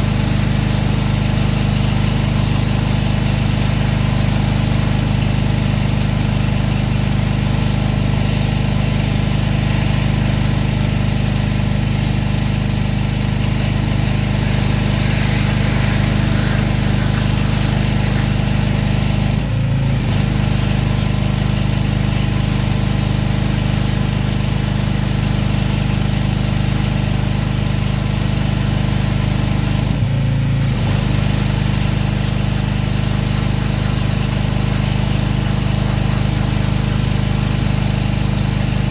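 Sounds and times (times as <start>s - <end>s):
pressure washer engine: 0.0s - 38.9s
pressure washer hiss: 0.0s - 38.9s.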